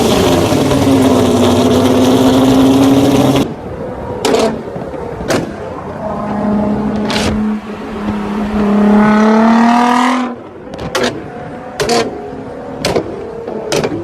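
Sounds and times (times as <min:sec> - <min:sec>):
car engine revving: 0:00.0 - 0:03.5, 0:05.9 - 0:13.8.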